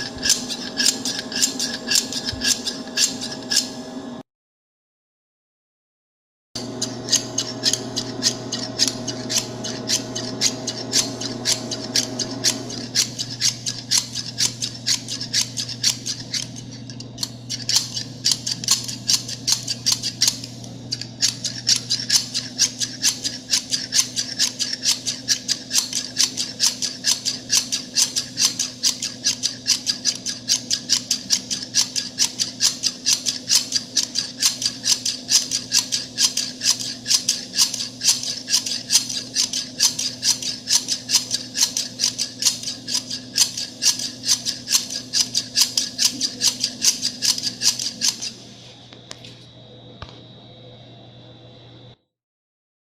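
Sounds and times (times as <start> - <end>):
steady low hum: 0.0 - 4.2, 6.6 - 52.1.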